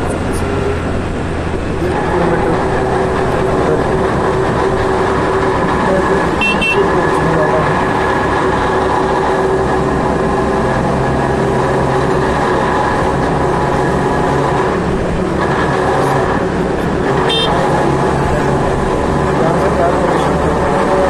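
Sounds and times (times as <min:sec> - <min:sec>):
wind rushing: 0:00.0 - 0:17.2
passing vehicles: 0:00.0 - 0:21.0
scooter engine hum: 0:00.0 - 0:21.0.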